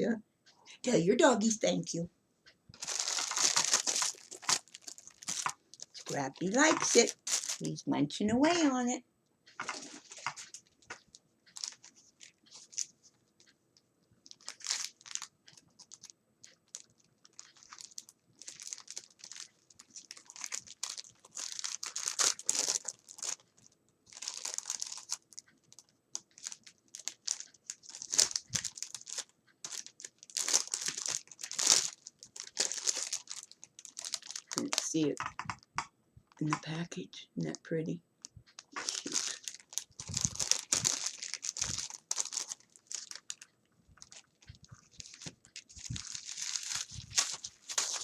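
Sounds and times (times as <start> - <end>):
packaging crinkling and tearing: 2.8 - 7.8, 9.6 - 12.9, 14.3 - 35.7, 38.5 - 48.0.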